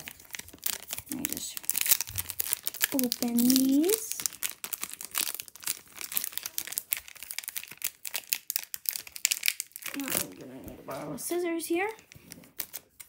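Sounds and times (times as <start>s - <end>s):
foil wrapper crinkling: 0.0s - 10.5s, 11.7s - 13.0s.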